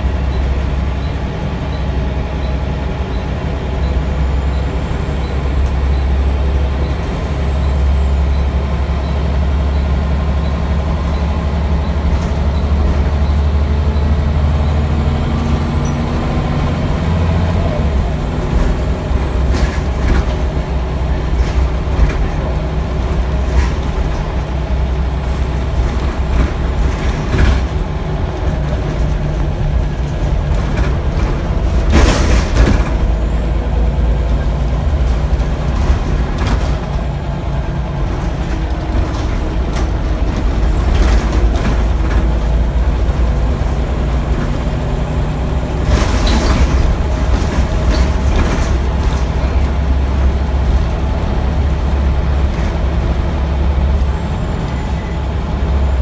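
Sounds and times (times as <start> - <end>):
bus diesel engine droning: 0.0 - 56.0
rattles and knocks from bus body: 8.3 - 56.0.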